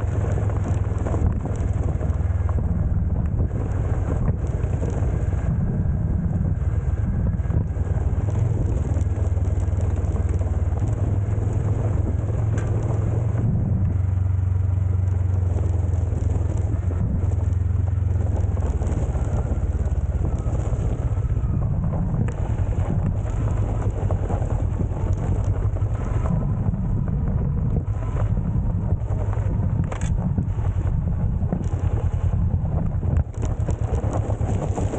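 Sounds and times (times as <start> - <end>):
motorcycle engine droning: 0.0 - 34.9.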